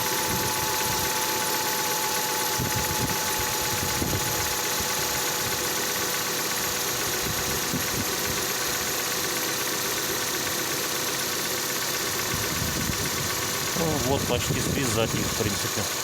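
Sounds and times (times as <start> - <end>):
petrol engine idling: 0.0 - 16.0.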